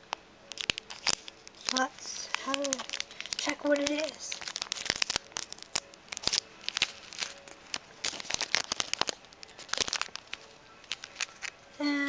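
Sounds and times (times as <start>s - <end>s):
plastic wrapper crinkling and tearing: 0.5s - 11.8s.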